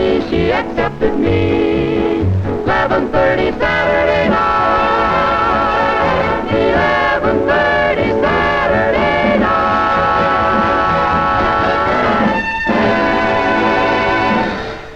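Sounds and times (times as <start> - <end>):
swing band playing chords: 0.0 - 14.9.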